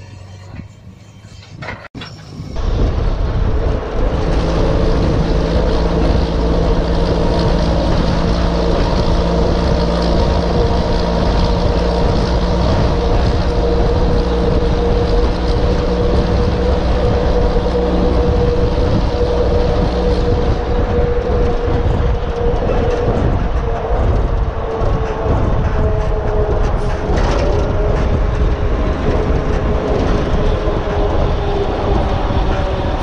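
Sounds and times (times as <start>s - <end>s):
truck engine running: 2.6s - 33.0s.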